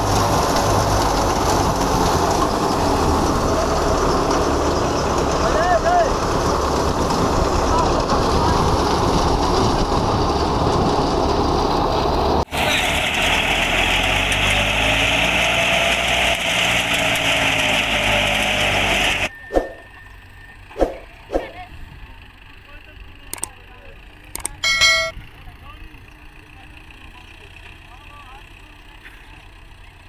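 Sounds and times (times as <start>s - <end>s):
thresher and tractor engine running: 0.0s - 30.0s.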